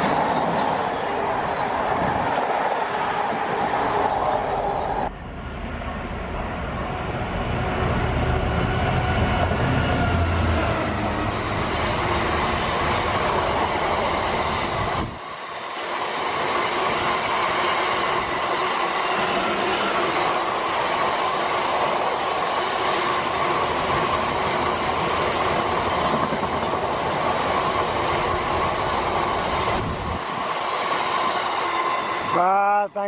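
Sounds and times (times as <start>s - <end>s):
freight train rumbling and clattering: 0.0s - 32.4s.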